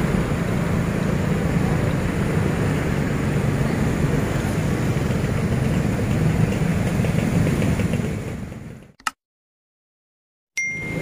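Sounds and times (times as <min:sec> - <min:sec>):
motorcycle engines idling: 0:00.0 - 0:08.9.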